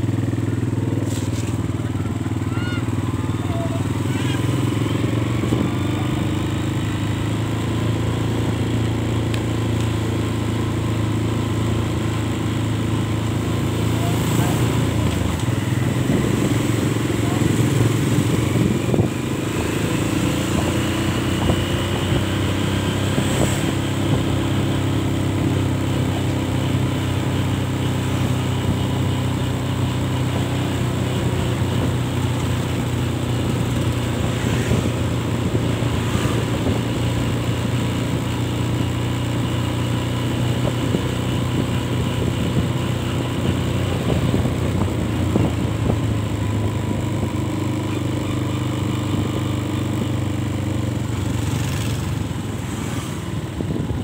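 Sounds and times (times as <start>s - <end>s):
motorcycle engine running: 0.0s - 54.0s
rushing air and road noise: 0.0s - 54.0s.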